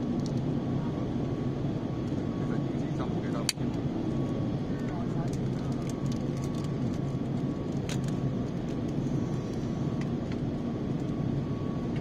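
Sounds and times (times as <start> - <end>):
airplane cabin noise: 0.0 - 12.0
faint steady whine: 0.0 - 12.0.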